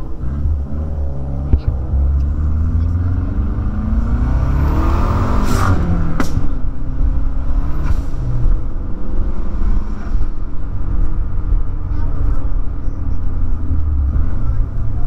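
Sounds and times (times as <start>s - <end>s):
car engine pulling: 0.0s - 15.0s
road noise: 0.0s - 15.0s
vehicle passing: 0.0s - 15.0s.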